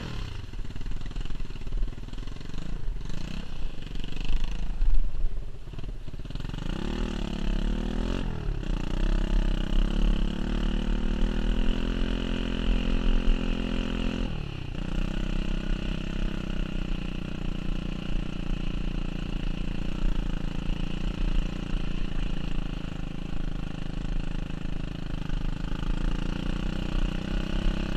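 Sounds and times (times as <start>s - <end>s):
small motorcycle engine revving: 0.0s - 4.8s, 5.7s - 27.9s
constant low rumble: 0.0s - 26.6s.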